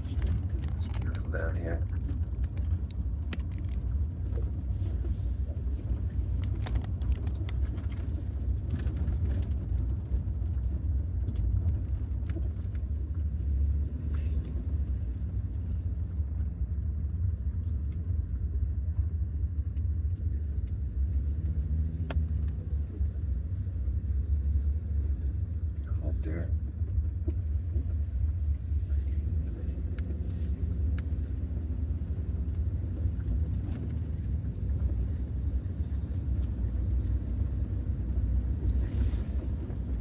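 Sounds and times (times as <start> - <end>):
van engine and road rumble: 0.0 - 40.0.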